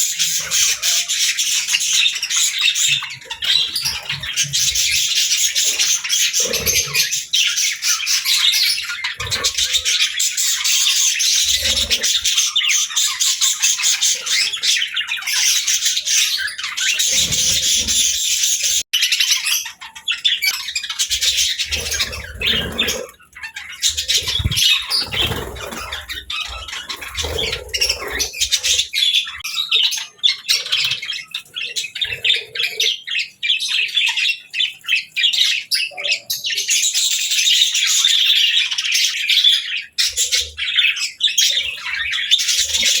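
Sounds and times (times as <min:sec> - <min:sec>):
budgerigars chattering: 0:00.0 - 0:43.0.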